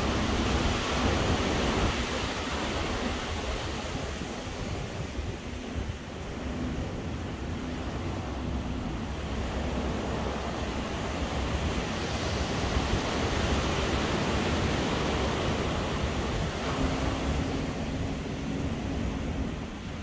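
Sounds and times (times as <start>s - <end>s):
ocean surf washing: 0.0s - 20.0s
wind: 0.0s - 20.0s.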